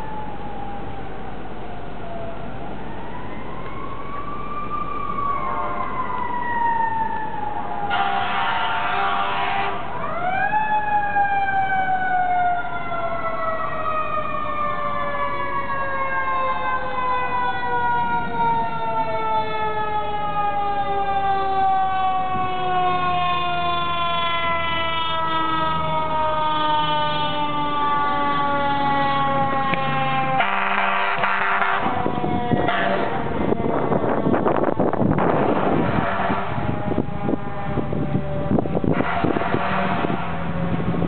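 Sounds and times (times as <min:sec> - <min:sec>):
mechanical siren wailing: 0:00.0 - 0:41.0.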